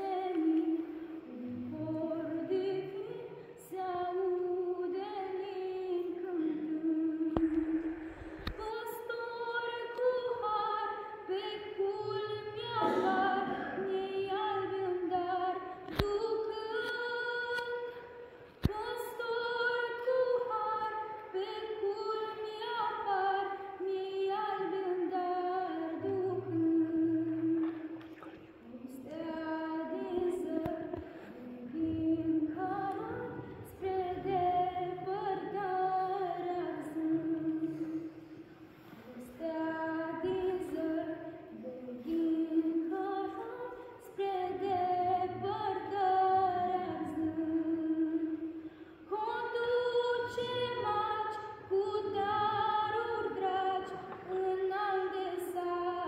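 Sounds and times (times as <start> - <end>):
women and girls singing: 0.0 - 28.0, 28.6 - 56.0.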